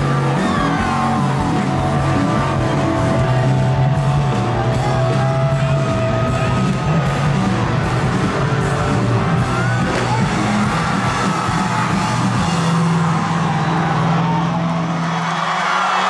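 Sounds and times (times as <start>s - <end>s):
live rock band playing: 0.0s - 15.0s
crowd yelling and whooping: 0.0s - 16.0s.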